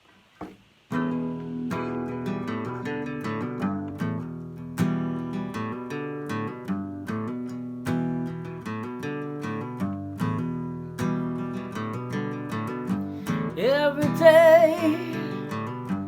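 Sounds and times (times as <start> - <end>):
acoustic guitar playing blues: 0.9 - 16.0.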